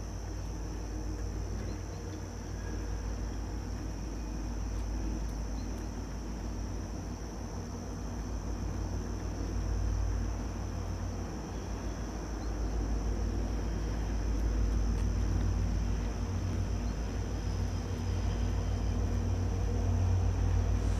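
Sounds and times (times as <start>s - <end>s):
distant train rumble: 0.0s - 20.9s.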